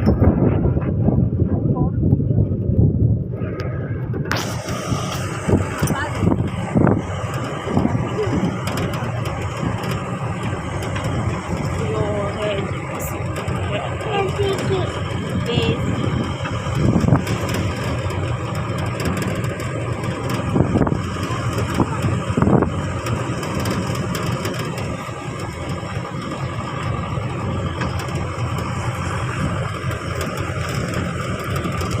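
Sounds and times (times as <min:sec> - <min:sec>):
road noise: 0:00.0 - 0:32.0
vehicle engine running: 0:00.0 - 0:32.0.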